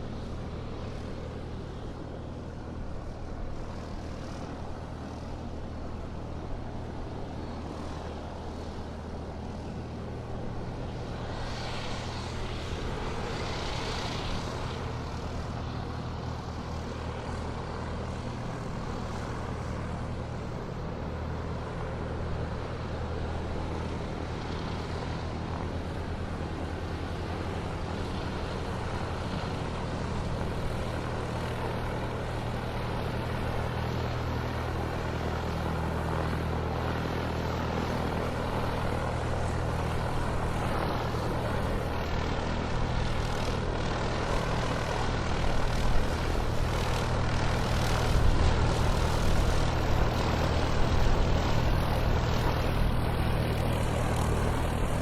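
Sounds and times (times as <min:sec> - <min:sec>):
airplane engines taking off: 0:00.0 - 0:55.0.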